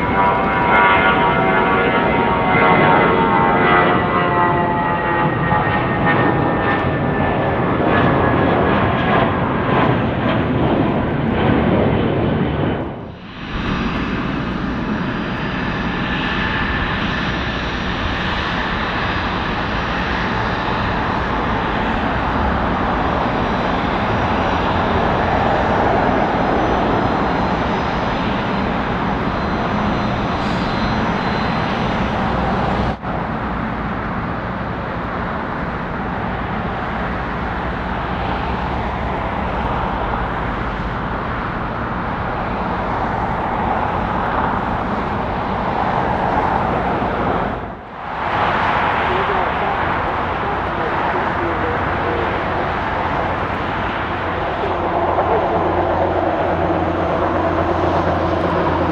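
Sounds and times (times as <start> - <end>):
jet engines running steadily: 0.0 - 58.9
jet engines whining: 0.0 - 58.9.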